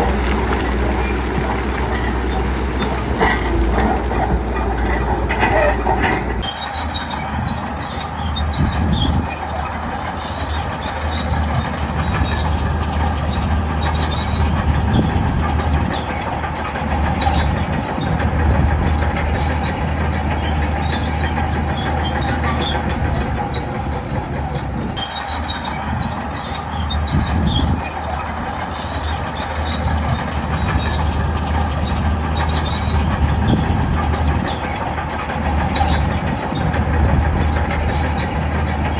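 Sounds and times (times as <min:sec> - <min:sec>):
bulldozer diesel engine under load: 0:00.0 - 0:38.9
steel tracks clanking and squealing: 0:00.0 - 0:38.9.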